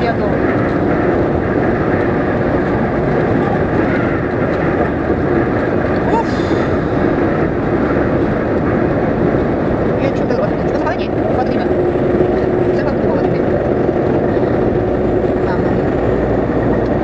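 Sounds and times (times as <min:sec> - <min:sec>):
road and wind noise: 0:00.0 - 0:17.0
truck engine drone: 0:00.0 - 0:17.0.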